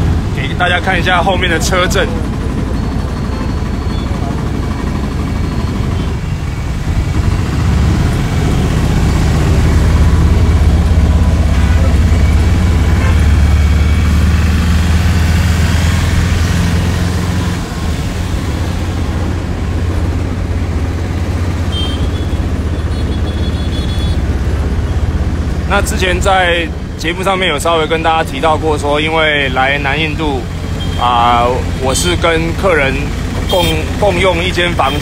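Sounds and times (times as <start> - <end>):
road and traffic noise: 0.0 - 35.0.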